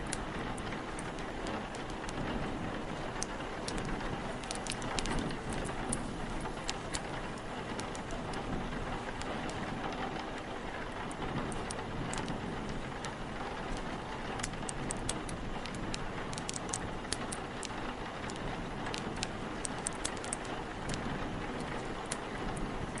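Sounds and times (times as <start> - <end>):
steady rain: 0.0 - 23.0
wind: 0.0 - 23.0
wood fire crackling: 0.0 - 23.0.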